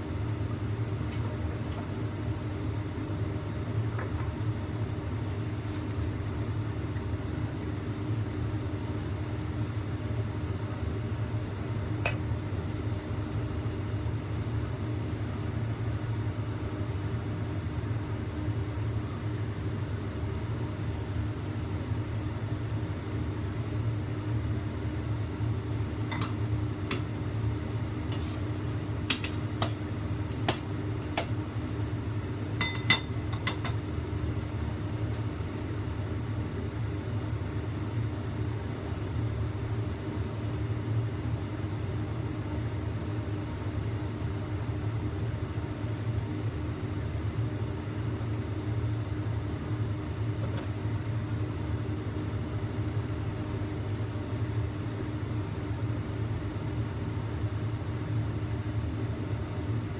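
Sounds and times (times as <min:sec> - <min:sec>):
gas stove burner hum: 0:00.0 - 0:59.9.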